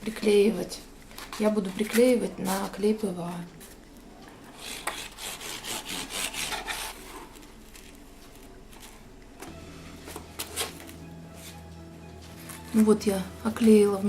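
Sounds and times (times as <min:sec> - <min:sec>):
low steady hum: 0:00.0 - 0:04.7, 0:06.8 - 0:14.0.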